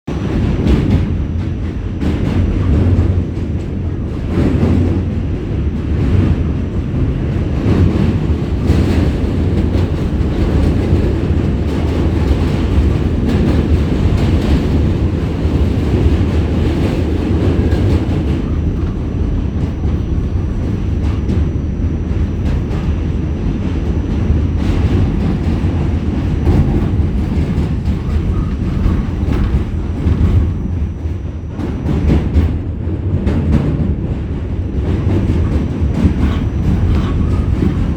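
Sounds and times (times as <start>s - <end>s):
train wheel clacks: 0.1s - 37.9s
train wheels rolling on rails: 0.1s - 37.9s.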